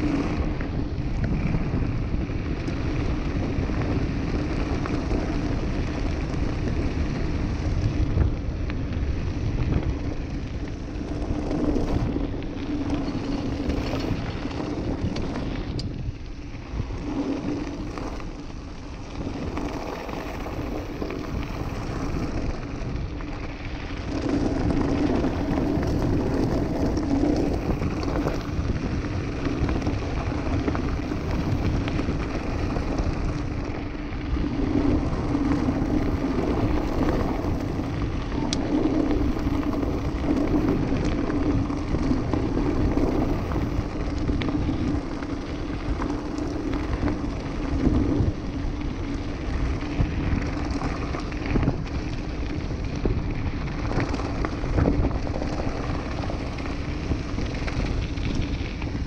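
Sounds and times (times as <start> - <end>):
bike tyres crunching on gravel: 0.0 - 59.0.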